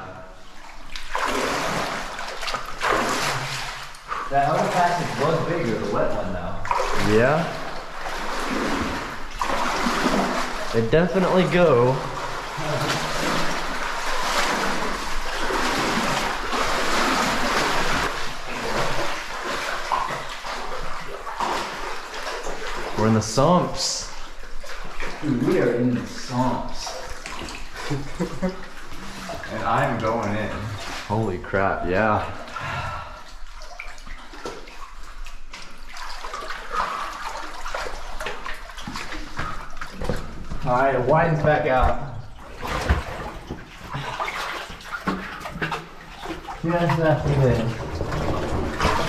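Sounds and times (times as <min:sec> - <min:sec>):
water splashing from wading: 0:00.0 - 0:49.0.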